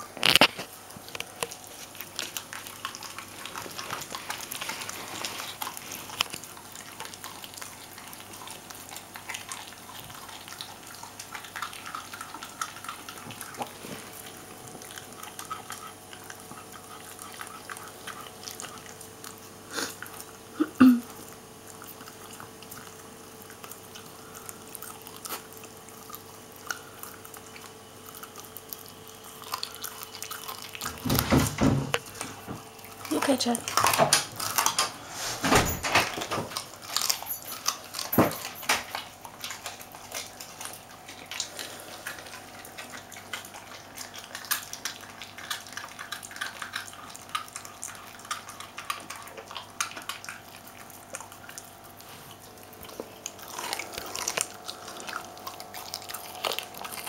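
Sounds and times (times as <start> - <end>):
dog crunching bone: 0.0 - 20.5, 21.1 - 57.0.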